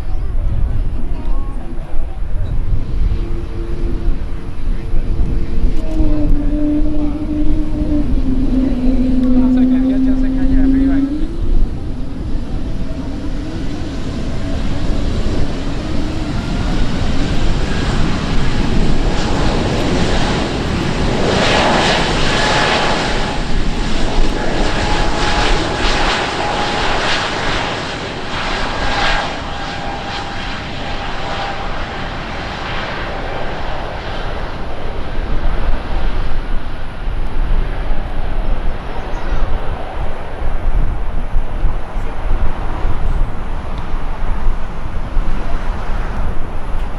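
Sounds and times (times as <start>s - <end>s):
aircraft engines passing: 0.0s - 46.9s.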